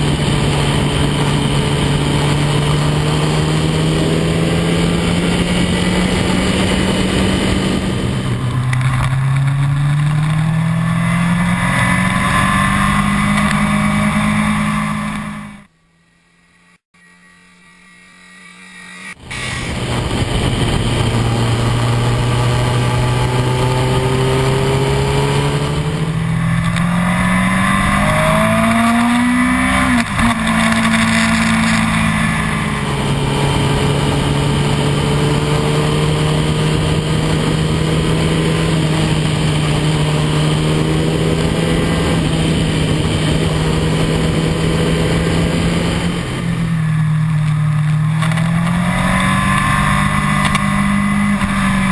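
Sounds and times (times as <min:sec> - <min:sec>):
wind rushing: 0:00.0 - 0:15.6, 0:19.1 - 0:51.9
motorcycle engine running: 0:00.0 - 0:51.9.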